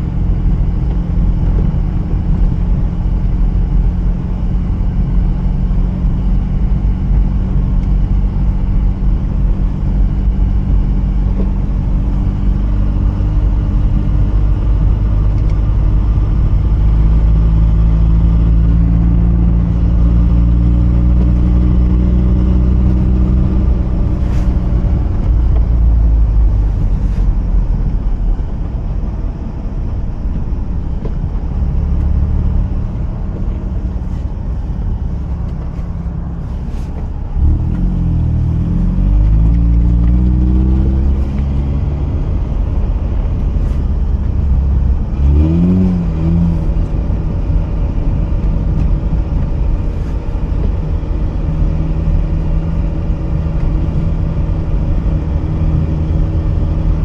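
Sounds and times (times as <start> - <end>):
low road rumble: 0.0 - 57.0.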